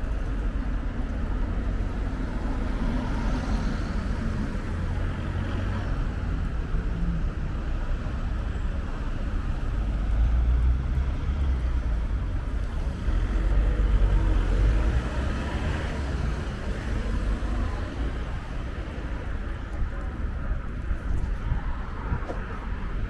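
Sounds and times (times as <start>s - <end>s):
passing car traffic: 0.0s - 23.0s
wind buffeting microphone: 0.0s - 23.0s.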